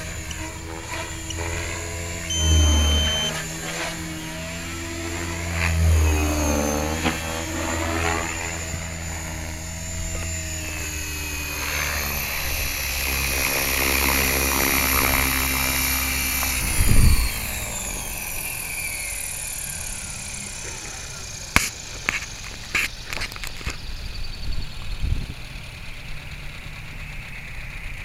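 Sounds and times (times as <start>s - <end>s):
model helicopter motor and rotor: 0.0s - 28.0s.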